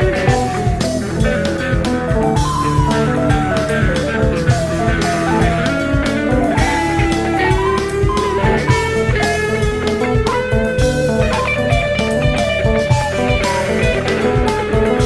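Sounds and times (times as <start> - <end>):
electric guitar lead: 0.0 - 15.0
steady drum beat: 0.0 - 15.0.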